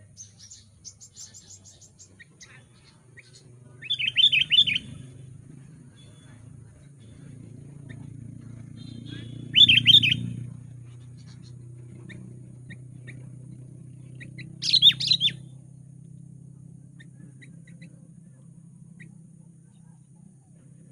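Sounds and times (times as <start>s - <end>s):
bird singing: 0.0s - 20.9s.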